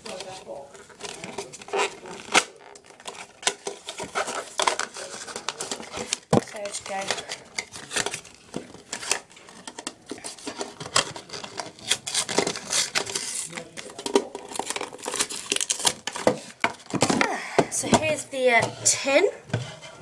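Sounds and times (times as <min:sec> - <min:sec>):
packaging crinkling and rustling: 0:00.0 - 0:17.2.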